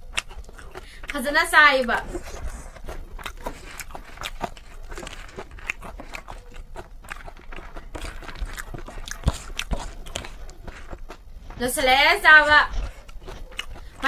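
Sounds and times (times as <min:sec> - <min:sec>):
wet chewing: 0:00.0 - 0:14.0.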